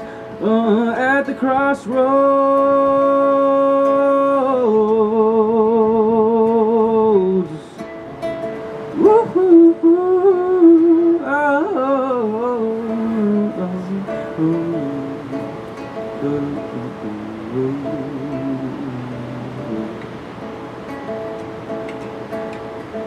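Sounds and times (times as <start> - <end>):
man singing with vibrato: 0.0 - 21.3
acoustic guitar: 0.0 - 23.0.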